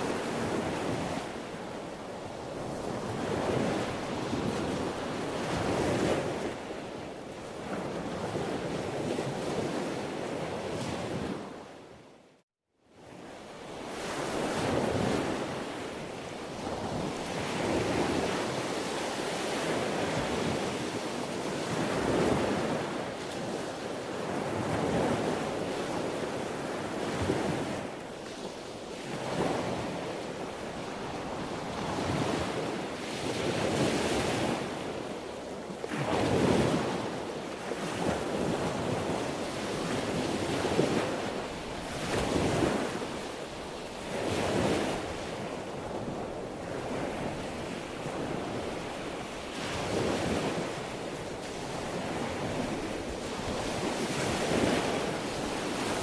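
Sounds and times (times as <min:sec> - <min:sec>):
sea waves breaking on shore: 0:00.0 - 0:12.0, 0:13.0 - 0:56.0
wind: 0:00.0 - 0:56.0.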